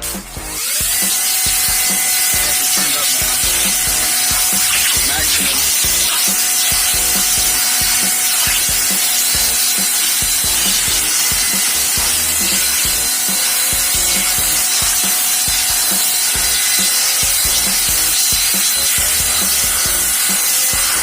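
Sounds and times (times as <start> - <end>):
pressure washer water jet hiss: 0.0 - 21.0.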